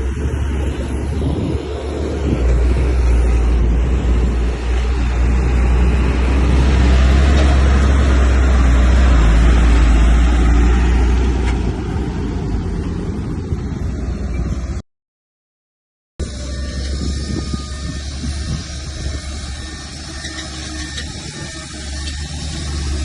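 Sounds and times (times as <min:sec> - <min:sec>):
diesel engine deep rumble: 0:00.0 - 0:14.8, 0:16.2 - 0:23.0.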